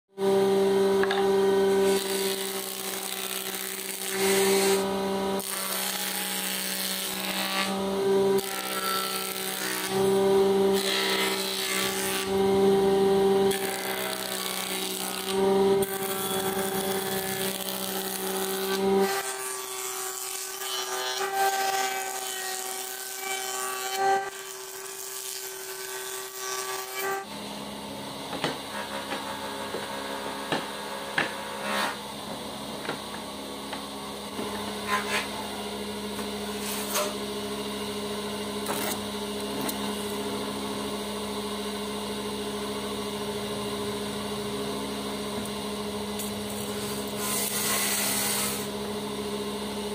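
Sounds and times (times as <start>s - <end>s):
jointer planer surfacing board: 0.2s - 49.9s
woodworking machine motor hum: 0.2s - 49.9s.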